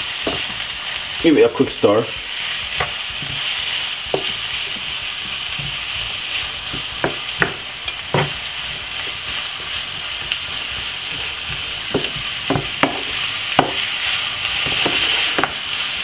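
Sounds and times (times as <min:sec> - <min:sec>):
vegetables sizzling in a frying pan: 0:00.0 - 0:16.0
wooden spoon scraping a pan: 0:02.1 - 0:15.7.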